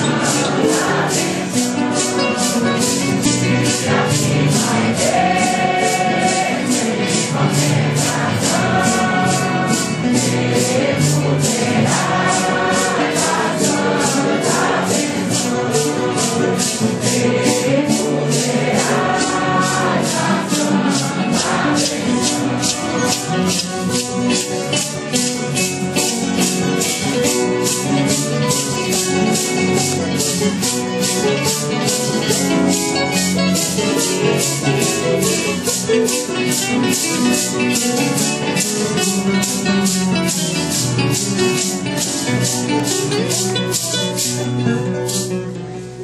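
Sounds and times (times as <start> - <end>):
congregation singing a hymn: 0.0 - 44.3
maracas shaken: 0.0 - 46.0.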